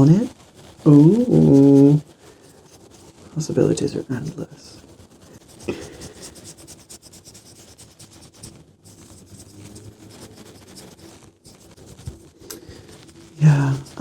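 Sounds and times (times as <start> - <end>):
brush bristles scratching wipe: 0.0 - 14.0.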